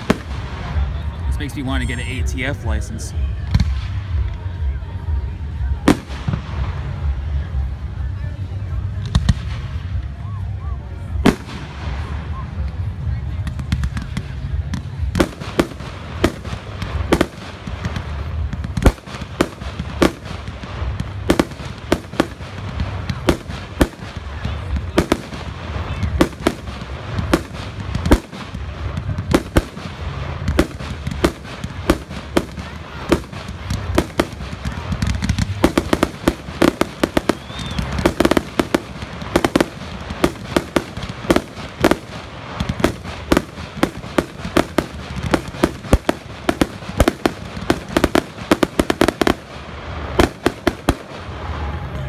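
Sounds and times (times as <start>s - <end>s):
fireworks bangs: 0.0s - 52.0s.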